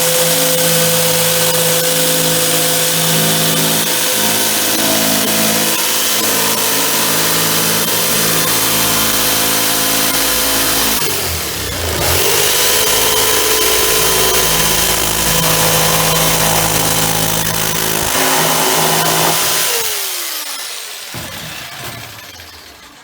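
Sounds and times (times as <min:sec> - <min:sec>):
jigsaw cutting plastic: 0:00.0 - 0:23.0.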